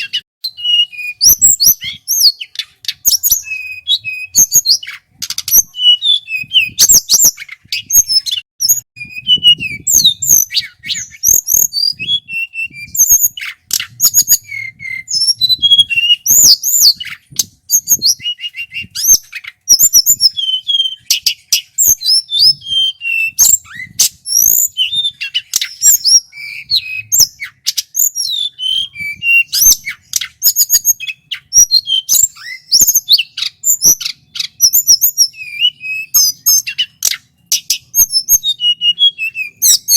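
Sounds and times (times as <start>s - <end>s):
flycatcher singing whistled phrases: 0.0s - 39.9s.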